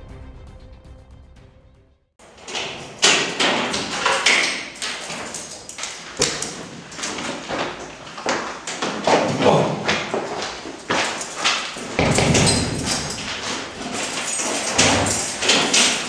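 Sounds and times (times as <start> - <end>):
knocks and thuds against door: 2.4 - 16.0.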